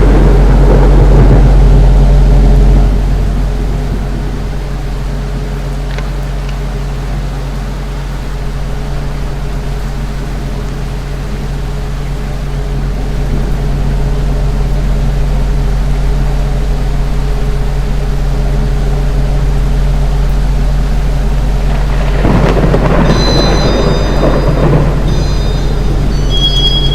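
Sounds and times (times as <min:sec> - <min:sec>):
ceiling fan humming: 0:00.0 - 0:26.9.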